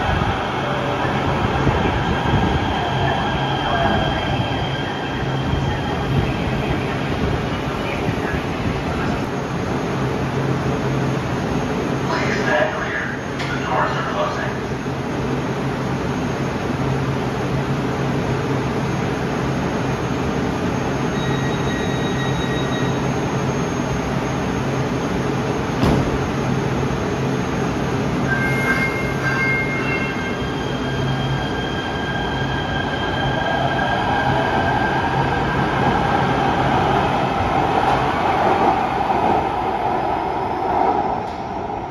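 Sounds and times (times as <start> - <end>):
train whine and wheels on rail: 0.0 - 41.9.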